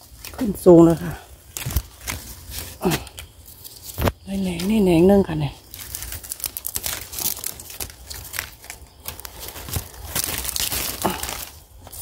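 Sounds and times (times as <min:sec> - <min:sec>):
bamboo leaves rustling and crackling: 0:00.0 - 0:12.0.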